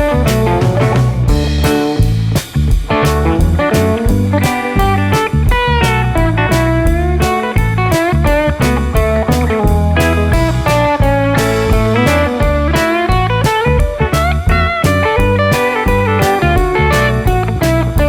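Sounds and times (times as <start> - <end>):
bass guitar: 0.0 - 18.0
blues-rock electric guitar: 0.0 - 18.0
steady drum beat: 0.0 - 18.0.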